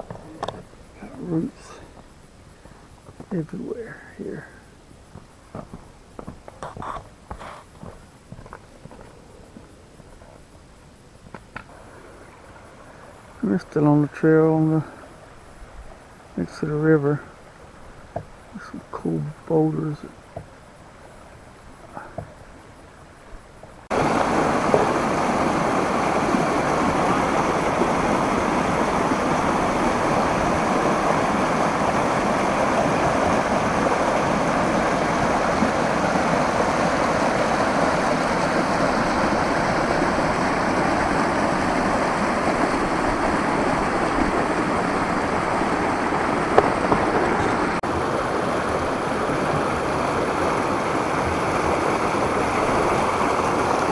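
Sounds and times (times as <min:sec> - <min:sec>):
creek rushing over rocks: 0:00.0 - 0:10.2, 0:11.2 - 0:22.7, 0:23.8 - 0:53.9.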